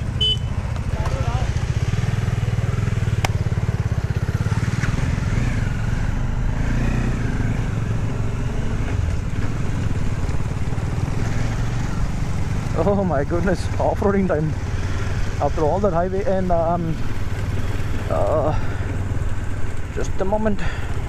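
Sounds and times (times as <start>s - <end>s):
motorcycle engine throbbing: 0.0s - 21.0s.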